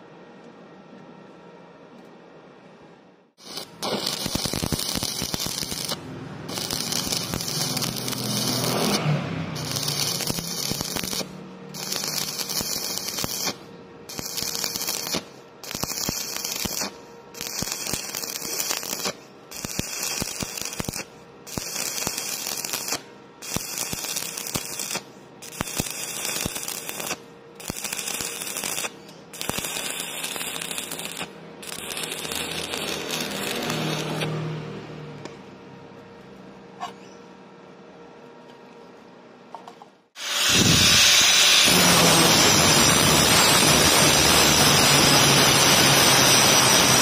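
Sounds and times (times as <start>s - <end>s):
welding arc crackling and hissing: 3.4s - 34.4s, 40.2s - 47.0s.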